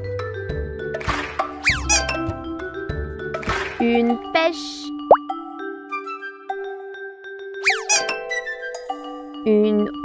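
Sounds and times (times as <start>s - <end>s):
cheerful children's music: 0.0s - 6.9s, 7.7s - 10.0s.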